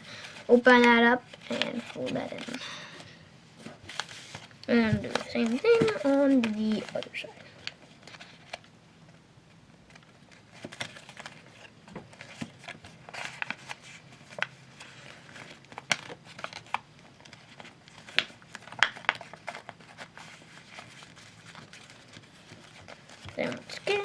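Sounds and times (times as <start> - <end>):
paper crinkling: 0.0 - 2.8, 3.6 - 8.7, 9.9 - 24.0.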